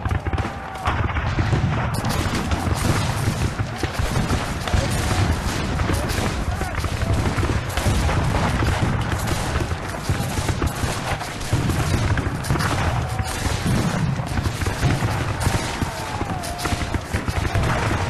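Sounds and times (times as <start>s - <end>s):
dense continuous gunfire: 0.0s - 18.0s.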